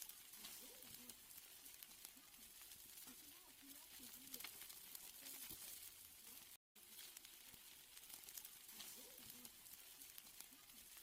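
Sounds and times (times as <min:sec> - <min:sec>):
steaks sizzling on a grill: 0:00.0 - 0:11.0.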